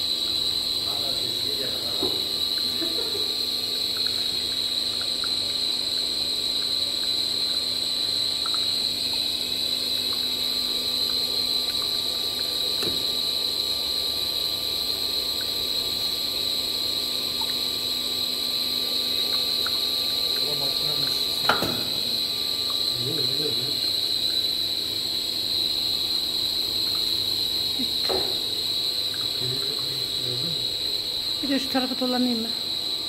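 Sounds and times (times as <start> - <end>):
oil press machine humming: 0.0 - 18.2, 18.8 - 32.0.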